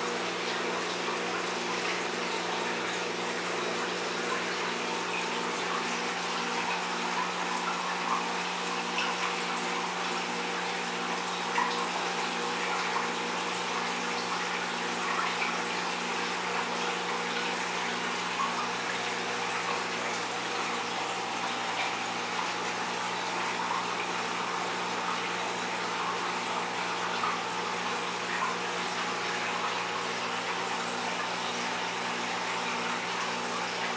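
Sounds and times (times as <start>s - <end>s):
running water in aquarium: 0.0s - 33.9s.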